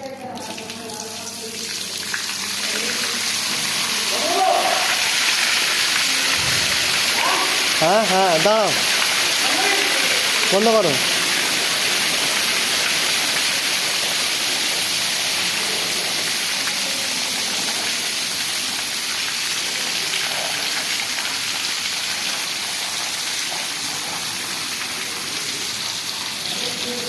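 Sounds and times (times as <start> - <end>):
water rushing with hard hiss: 2.5 - 27.0.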